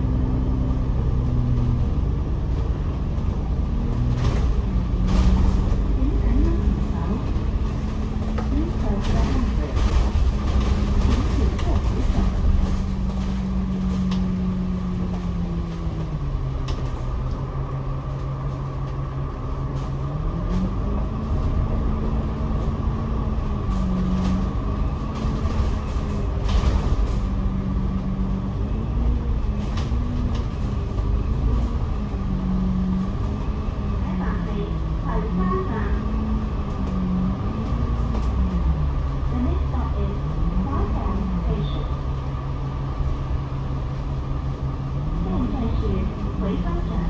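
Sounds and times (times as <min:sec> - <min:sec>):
bus engine: 0:00.0 - 0:47.0
low rumble: 0:00.0 - 0:47.0.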